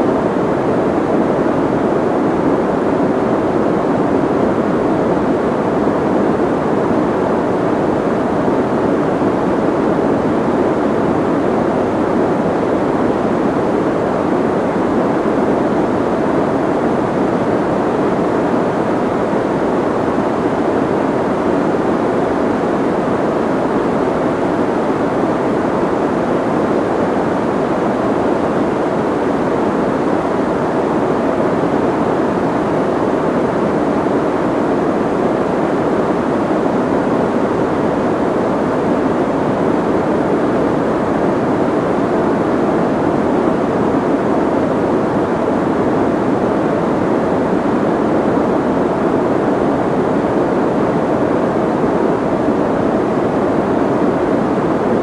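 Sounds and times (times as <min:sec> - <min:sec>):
muffled white noise hiss: 0:00.0 - 0:55.0.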